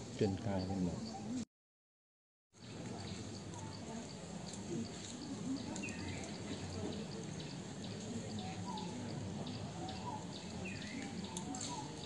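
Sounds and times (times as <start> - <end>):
distant crowd chatter: 0.2 - 1.4, 2.6 - 12.0
small birds chirping: 0.2 - 1.4, 2.6 - 12.0.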